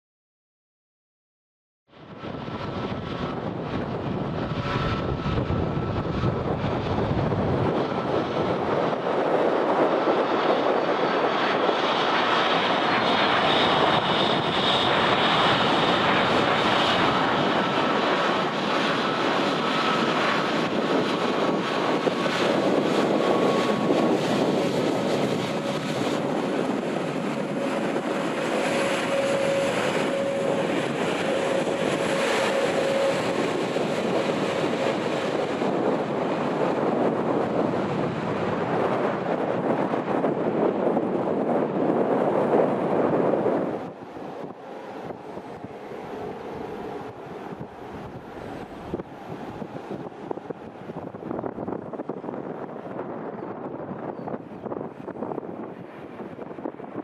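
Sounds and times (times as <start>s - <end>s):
jet engines taking off: 1.9s - 57.0s
taxiing airliner engines: 1.9s - 57.0s
wind buffeting microphone: 2.0s - 57.0s.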